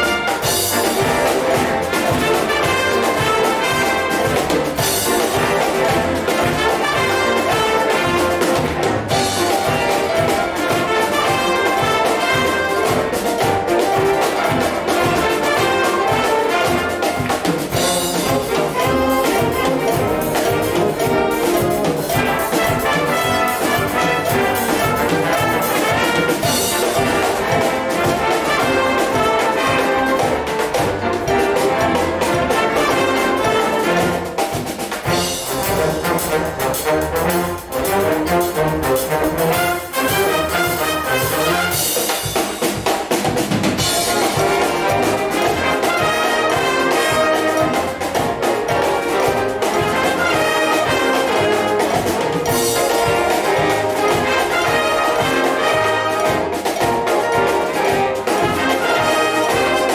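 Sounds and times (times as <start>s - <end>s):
steady percussion beat: 0.0s - 59.9s
trombones and trumpets: 0.0s - 59.9s
wind band playing: 0.0s - 59.9s.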